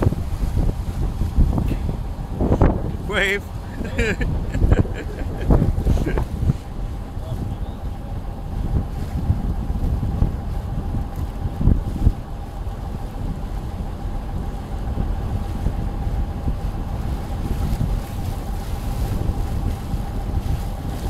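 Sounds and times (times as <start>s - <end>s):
boat engine hum: 0.0s - 21.0s
wind buffeting microphone: 0.0s - 21.0s.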